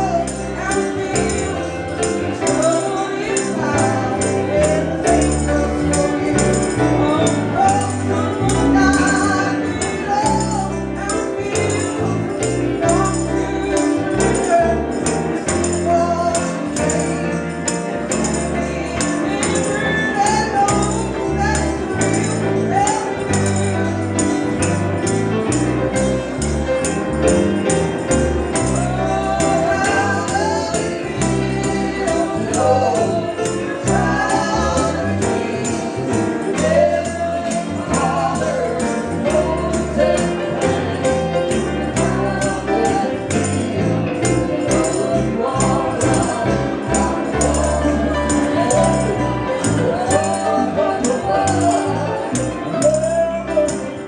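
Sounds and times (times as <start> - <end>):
bass notes: 0.0 - 54.0
tambourine shaken: 0.0 - 54.0
voices singing gospel: 0.0 - 54.0.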